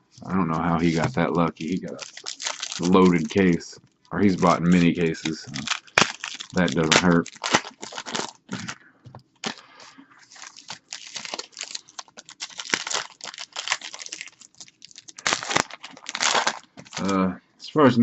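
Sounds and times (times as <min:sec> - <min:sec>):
plastic wrapping crinkling and tearing: 0:00.5 - 0:08.8, 0:09.4 - 0:17.2.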